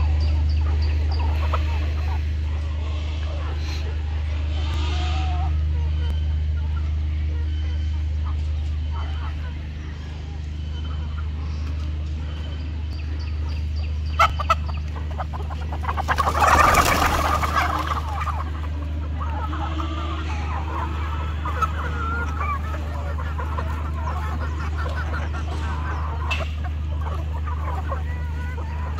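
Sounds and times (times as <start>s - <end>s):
chickens clucking: 0.0s - 28.9s
steady low hum: 0.0s - 28.9s.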